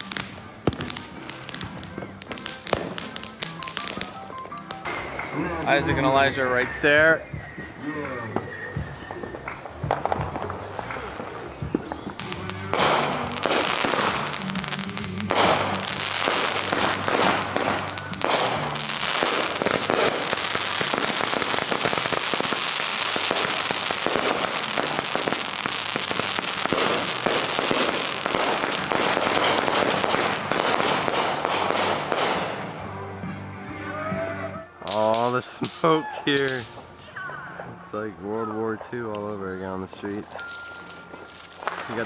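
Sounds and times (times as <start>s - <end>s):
fireworks bangs and crackling: 0.0s - 32.9s, 34.8s - 36.9s, 38.2s - 42.0s.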